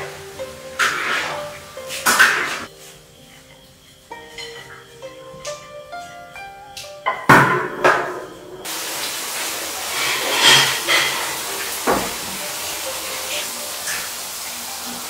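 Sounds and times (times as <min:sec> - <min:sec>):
background music: 0:00.0 - 0:15.0
room noise hiss: 0:00.0 - 0:15.0.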